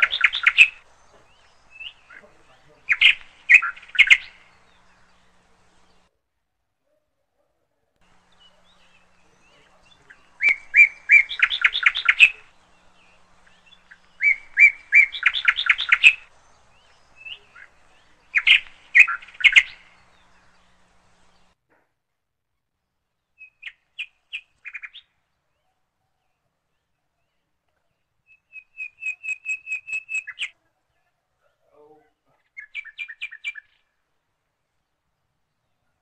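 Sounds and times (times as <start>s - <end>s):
myna bird calling: 0.0s - 6.1s, 8.0s - 21.6s, 23.4s - 34.1s.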